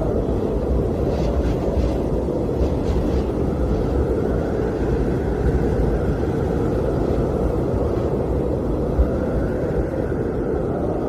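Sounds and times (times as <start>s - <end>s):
blizzard wind blowing: 0.0s - 11.0s.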